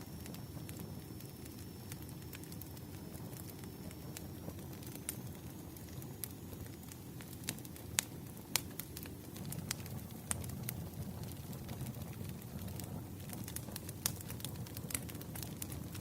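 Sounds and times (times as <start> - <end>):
rumble of flames: 0.0 - 16.0
burning wood popping: 0.1 - 16.0.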